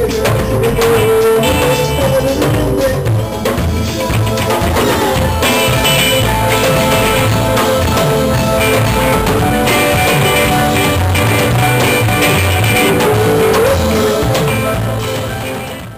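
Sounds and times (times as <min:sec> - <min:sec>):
drum kit: 0:00.0 - 0:15.9
rock guitar: 0:00.0 - 0:15.9.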